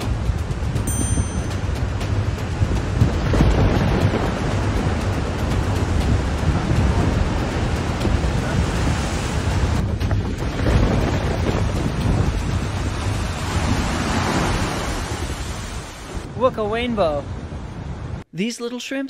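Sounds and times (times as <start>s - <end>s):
ocean waves breaking on rocks: 0.0s - 16.9s
wind on microphone: 0.0s - 18.2s.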